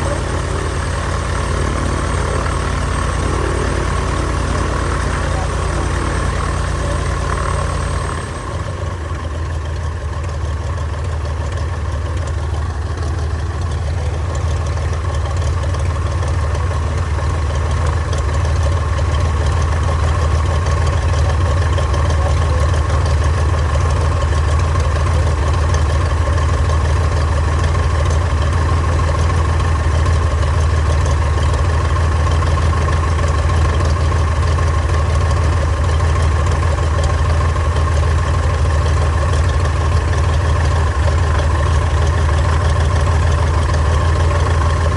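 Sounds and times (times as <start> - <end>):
airplane engine running: 0.0 - 44.9.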